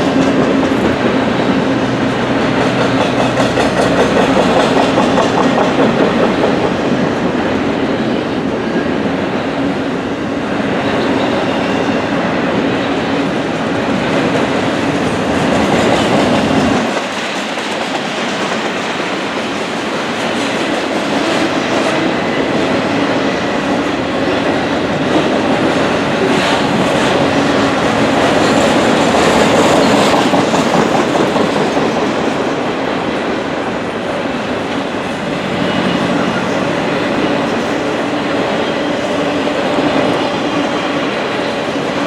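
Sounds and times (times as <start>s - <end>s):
clickety-clack over rail joints: 0.0s - 42.0s
freight train wheels on rails: 0.0s - 42.0s.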